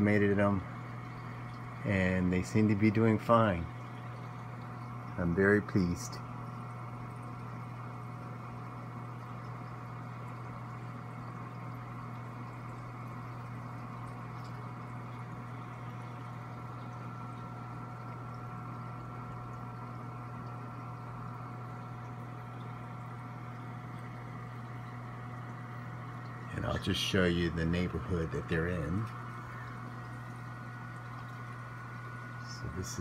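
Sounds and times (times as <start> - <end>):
aquarium pumps humming: 0.0 - 33.0
circulating water hiss: 0.0 - 33.0.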